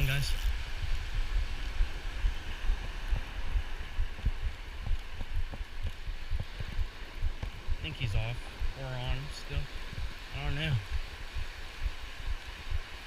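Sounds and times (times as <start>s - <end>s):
ocean surf hissing: 0.0s - 13.0s
wind buffeting microphone: 0.0s - 13.0s.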